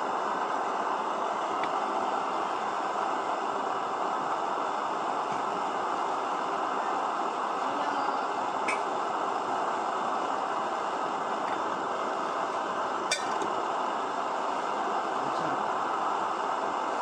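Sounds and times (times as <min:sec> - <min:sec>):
stove burning with rushing noise: 0:00.0 - 0:17.0.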